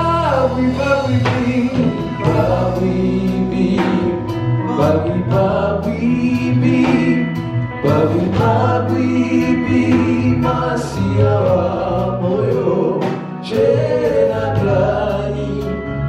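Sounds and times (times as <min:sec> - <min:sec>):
gospel choir with live band: 0:00.0 - 0:16.0.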